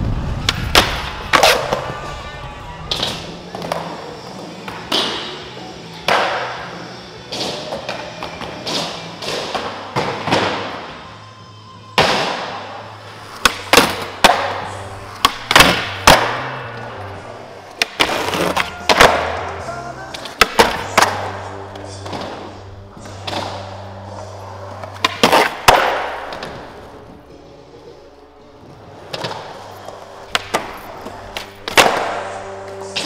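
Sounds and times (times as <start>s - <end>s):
music: 0.0s - 33.0s.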